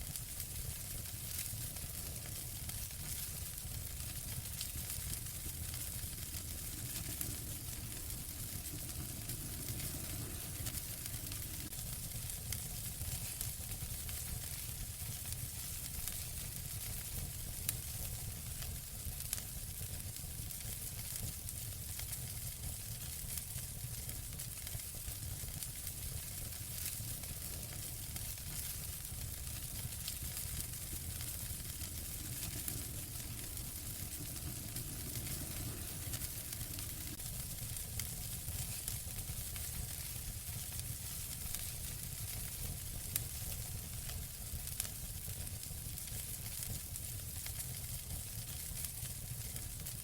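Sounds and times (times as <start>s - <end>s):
fire hiss and low rumble: 0.0s - 50.0s
wood fire crackling and popping: 0.0s - 50.0s.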